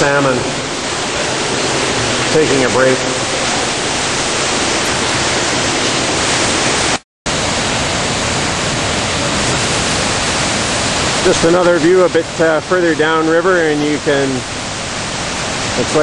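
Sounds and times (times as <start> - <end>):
fast-flowing water rushing: 0.0 - 16.0.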